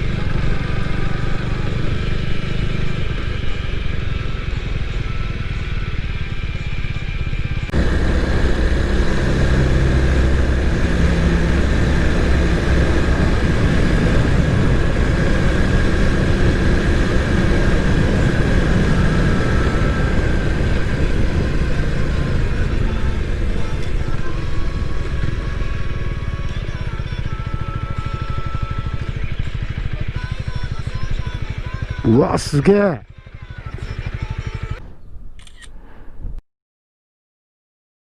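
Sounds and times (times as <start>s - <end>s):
motorcycle engine running: 0.0s - 35.1s.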